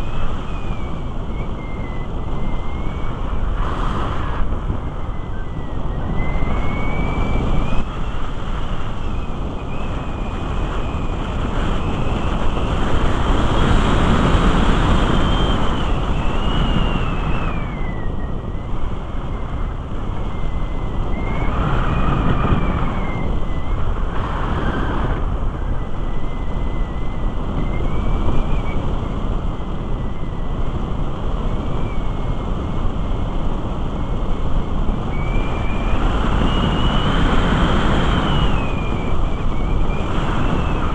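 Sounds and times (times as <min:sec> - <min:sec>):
airflow rushing over camera: 0:00.0 - 0:40.9.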